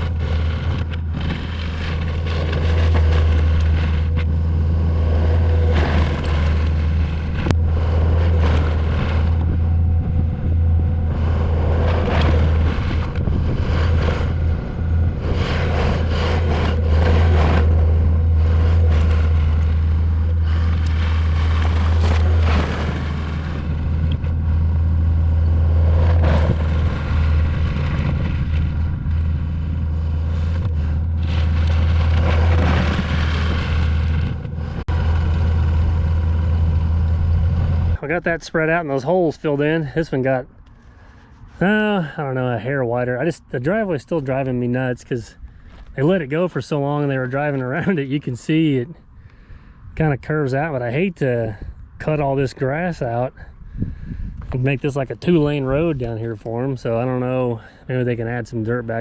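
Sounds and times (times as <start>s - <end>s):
diesel engine under load: 0.0s - 59.0s
gravel clattering and scraping: 0.0s - 59.0s.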